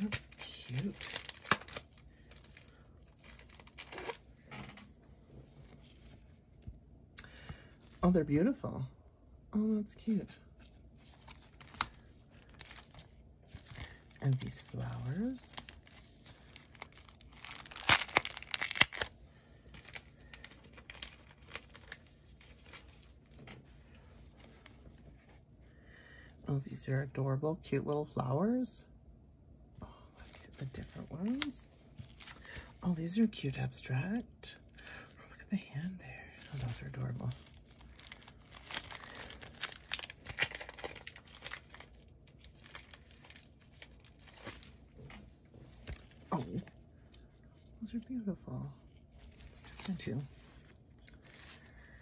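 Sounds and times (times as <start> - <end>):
paper and plastic packaging crinkling: 0.0 - 6.6, 10.5 - 25.6, 30.2 - 35.2, 36.0 - 48.1, 48.9 - 52.0.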